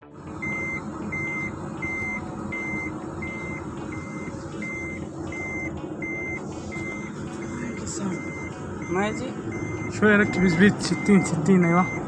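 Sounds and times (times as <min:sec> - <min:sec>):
vehicle engine rumble: 0:00.0 - 0:12.0
vehicle warning beeper: 0:00.3 - 0:12.0.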